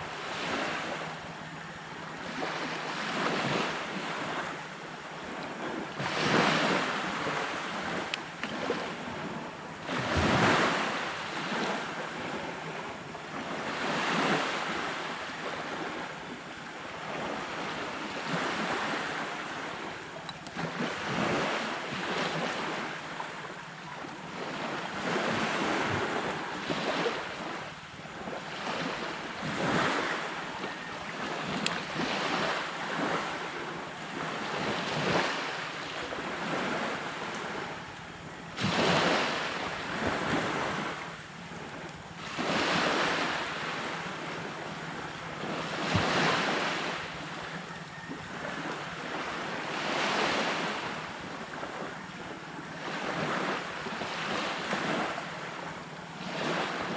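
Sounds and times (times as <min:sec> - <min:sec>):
waves breaking on a beach: 0:00.0 - 0:56.9
wind on microphone: 0:00.0 - 0:56.9.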